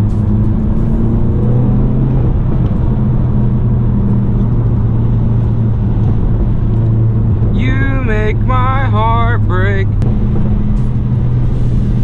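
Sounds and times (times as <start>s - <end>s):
car engine under light throttle: 0.0s - 12.0s.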